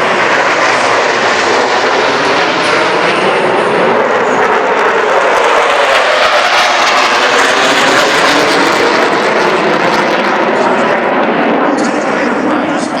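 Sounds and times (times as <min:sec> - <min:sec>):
jet engines in flight: 0:00.0 - 0:13.0.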